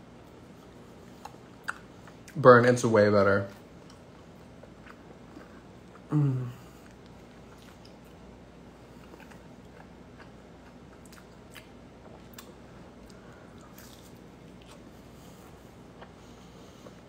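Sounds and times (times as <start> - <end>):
person chewing food: 0.2 - 2.4, 3.5 - 17.0.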